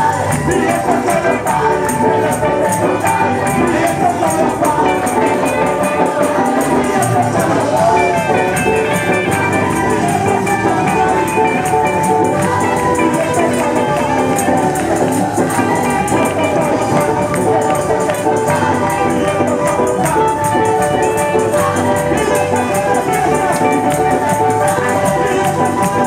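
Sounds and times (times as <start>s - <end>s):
hand-clapping: 0.0s - 26.0s
live worship music with singing: 0.0s - 26.0s
tambourine: 0.0s - 26.0s.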